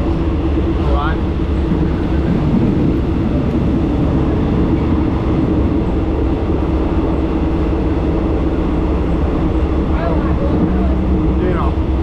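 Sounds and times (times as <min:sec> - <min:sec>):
train carriage running on rails: 0:00.0 - 0:12.0.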